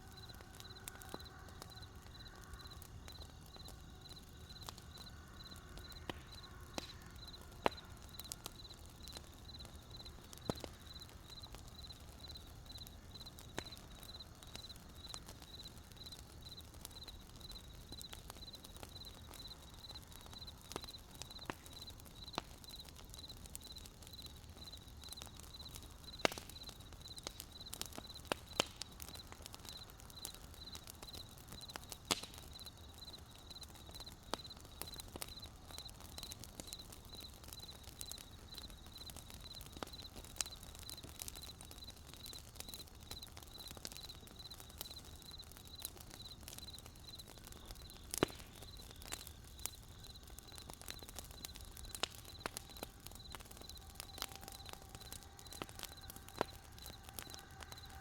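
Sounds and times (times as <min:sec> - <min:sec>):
campfire crackling and popping: 0:00.0 - 0:58.0
cricket chirping: 0:00.0 - 0:58.0.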